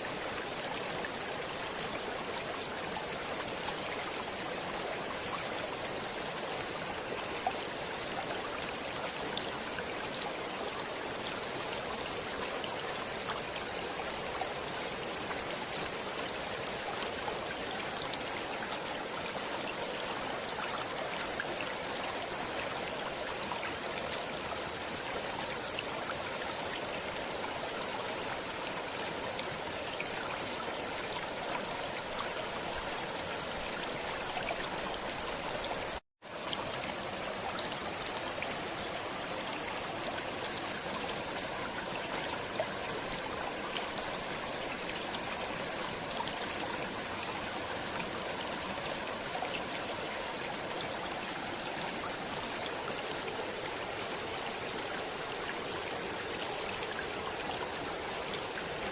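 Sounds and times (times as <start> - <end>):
stream running: 0.0 - 58.9.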